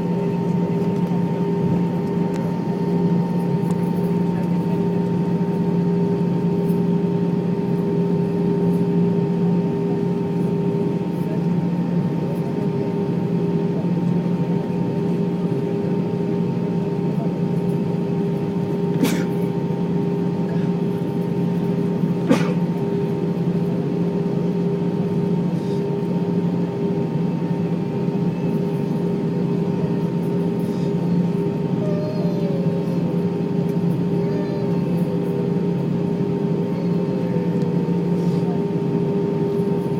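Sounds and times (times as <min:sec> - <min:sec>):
airliner cabin engine noise: 0:00.0 - 0:39.9
constant tonal hum: 0:00.0 - 0:39.9.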